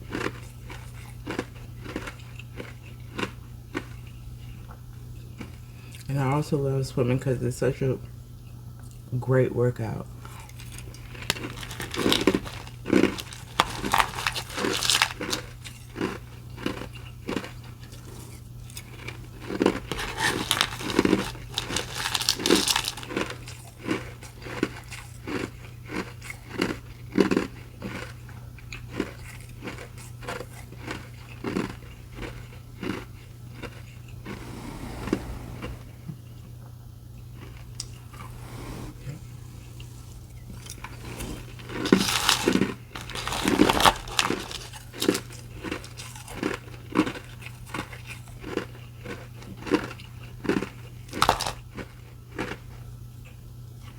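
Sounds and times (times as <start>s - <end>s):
ice being chewed: 0.0s - 6.3s, 10.2s - 36.5s, 37.2s - 53.9s.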